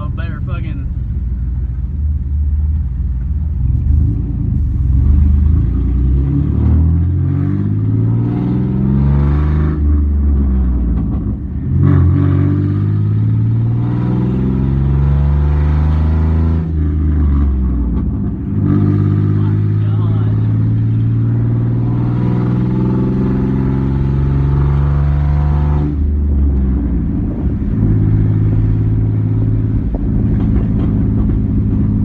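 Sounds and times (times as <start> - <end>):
pickup engine revving: 3.6 - 32.0.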